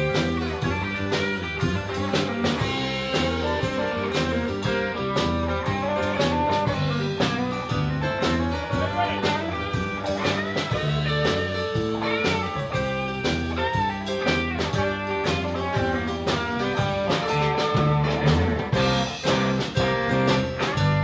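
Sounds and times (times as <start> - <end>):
blues band playing: 0.0 - 21.0
electric guitar bending notes: 0.0 - 21.0.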